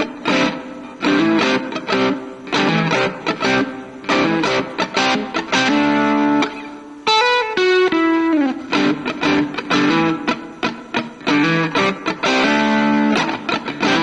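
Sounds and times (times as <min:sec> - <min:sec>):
electric guitar single notes: 0:00.0 - 0:14.0
electric guitar strummed chords: 0:00.0 - 0:14.0.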